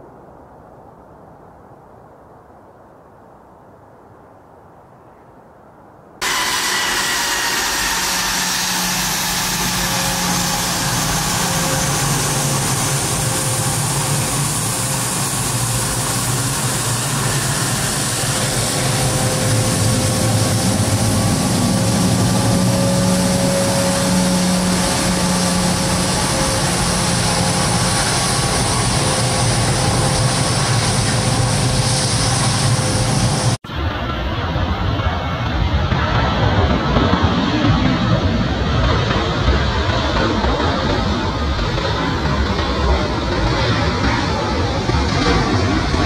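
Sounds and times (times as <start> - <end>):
jet engines roaring with high whine: 6.2 - 46.0.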